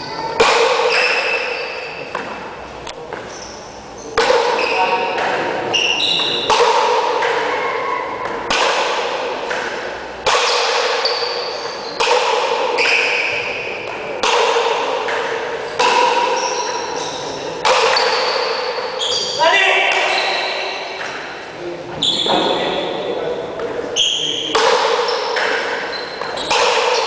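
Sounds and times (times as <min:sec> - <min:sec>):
ball striking paddle and court: 0:00.3 - 0:21.5, 0:23.6 - 0:27.0.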